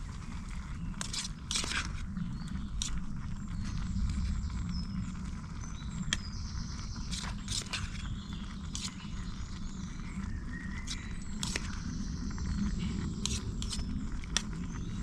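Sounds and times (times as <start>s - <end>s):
food crackling and popping: 0.0s - 15.0s
stove burner rushing: 0.0s - 15.0s.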